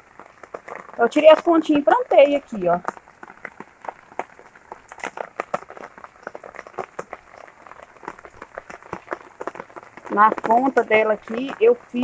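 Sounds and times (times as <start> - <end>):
raindrops dripping and tapping: 0.0 - 12.0.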